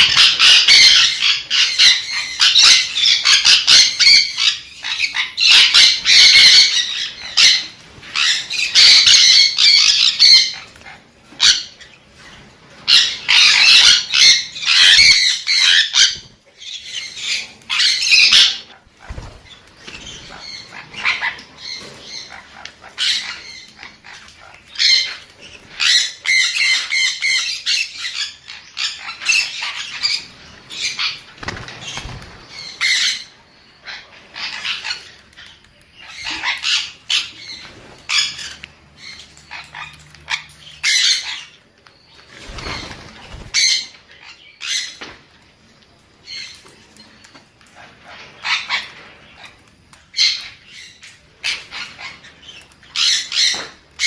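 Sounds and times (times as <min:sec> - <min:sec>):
parrot squawking and chirping: 0:00.0 - 0:45.2, 0:46.2 - 0:54.0
soft chattering calls: 0:00.0 - 0:54.0.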